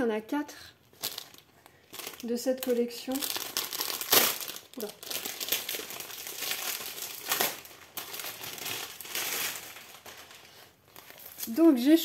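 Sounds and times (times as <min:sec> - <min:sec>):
plastic packaging crinkling: 0:00.8 - 0:12.0.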